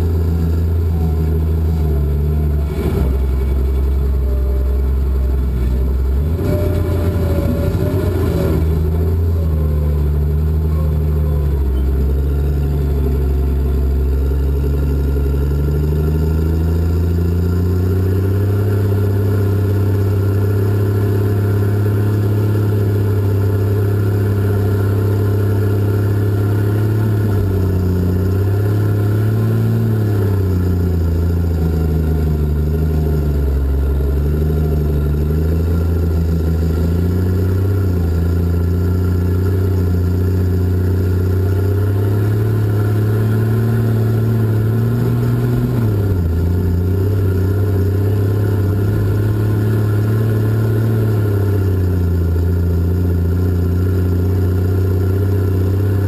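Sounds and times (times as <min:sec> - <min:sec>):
diesel engine running loud: 0:00.0 - 0:56.0.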